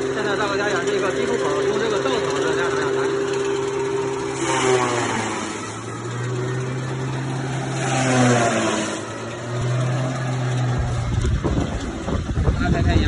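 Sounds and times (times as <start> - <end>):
forage chopper motor hum: 0.0 - 13.0
chopper chopping material: 0.9 - 12.0.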